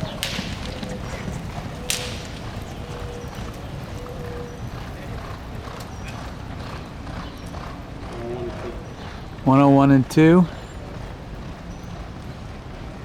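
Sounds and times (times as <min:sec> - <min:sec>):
horses galloping hoofbeats: 0:00.0 - 0:13.0.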